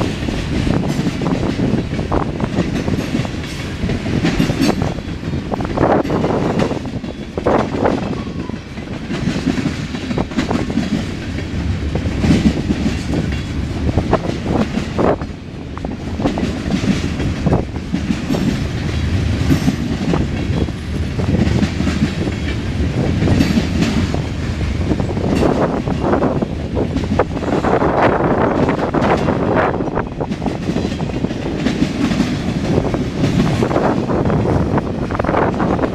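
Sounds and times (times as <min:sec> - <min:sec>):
freight train wheels rumbling: 0:00.0 - 0:35.9
wheels clacking over rail joints: 0:00.0 - 0:35.9.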